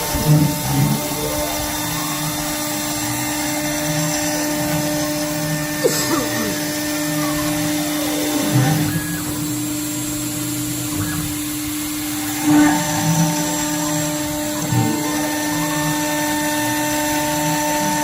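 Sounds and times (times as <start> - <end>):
router spindle milling metal: 0.0 - 18.0.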